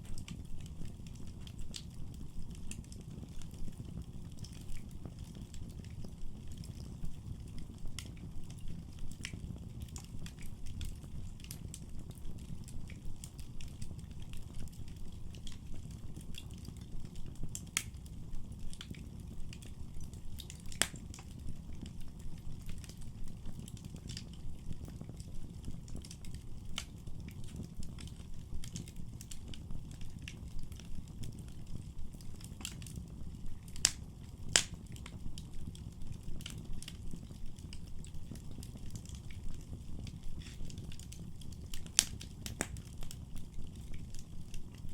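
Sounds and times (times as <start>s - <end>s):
fire rumbling in fireplace: 0.0s - 44.9s
logs crackling and popping: 0.0s - 44.9s.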